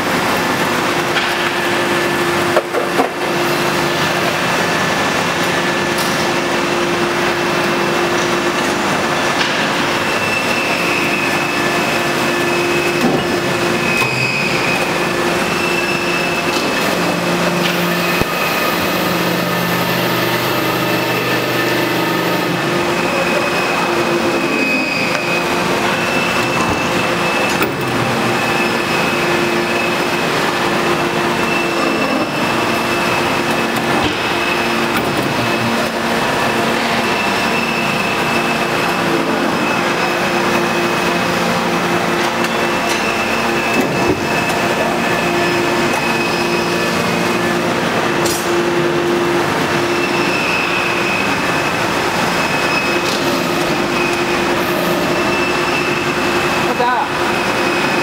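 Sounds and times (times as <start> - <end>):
high steady whine: 0.0 - 58.0
machinery hum: 0.0 - 58.0.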